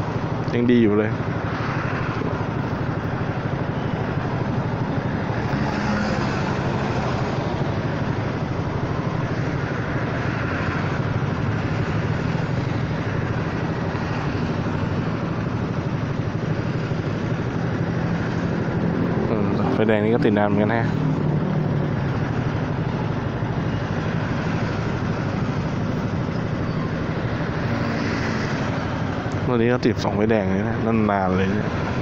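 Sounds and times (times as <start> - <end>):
scooter engine idling: 0.0 - 32.0
traffic noise: 0.0 - 32.0.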